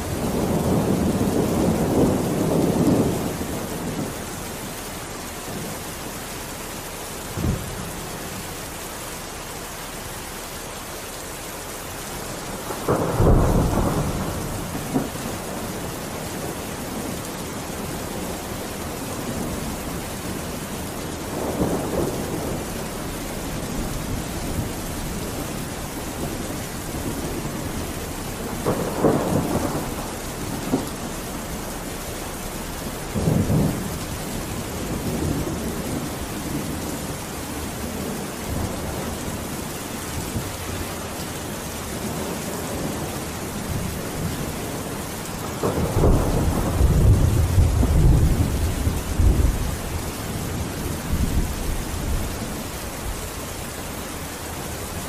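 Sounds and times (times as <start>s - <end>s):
thunder rumbles: 0.0s - 8.5s, 12.1s - 54.0s
steady rain: 0.0s - 55.0s.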